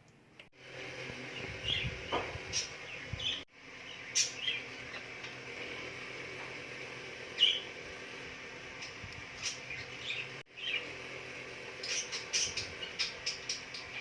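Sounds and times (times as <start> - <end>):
birds chirping: 1.1 - 14.0.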